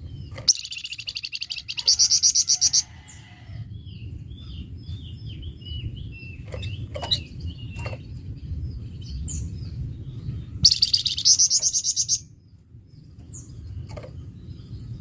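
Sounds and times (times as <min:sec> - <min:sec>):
songbird chirping and trilling: 0:00.0 - 0:15.0
steady low rumble: 0:00.0 - 0:15.0.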